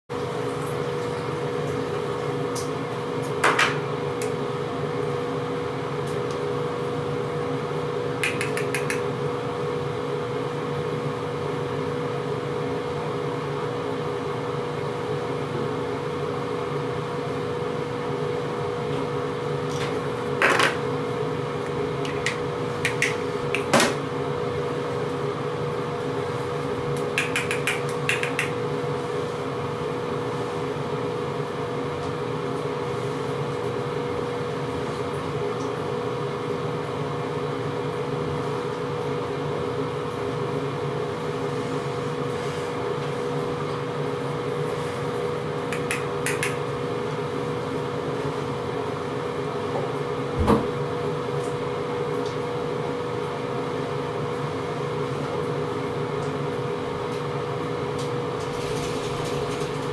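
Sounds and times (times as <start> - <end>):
steady mechanical hum: 0.1 - 59.9.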